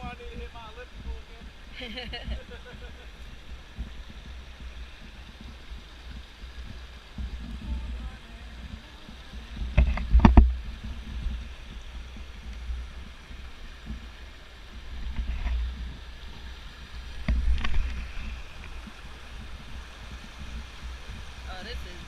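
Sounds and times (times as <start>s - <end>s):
wind rumble: 0.0s - 22.0s.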